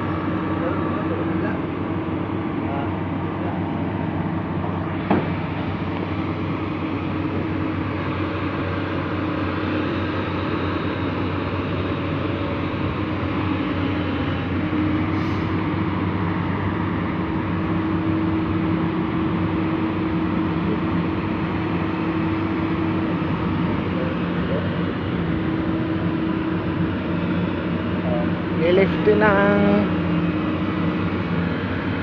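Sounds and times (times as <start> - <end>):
diesel engine drone: 0.0 - 32.0
steady machinery whine: 0.0 - 32.0.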